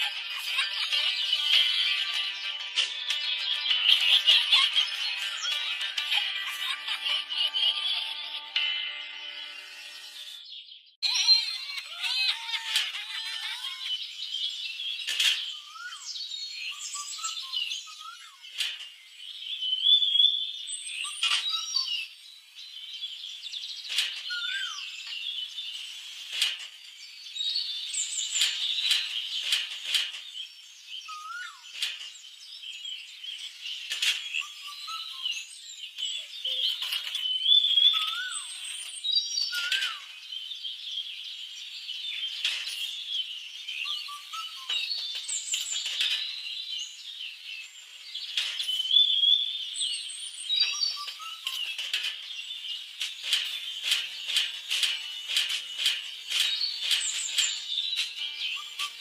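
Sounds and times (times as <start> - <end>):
small birds chirping: 0.0 - 8.6, 9.9 - 59.0.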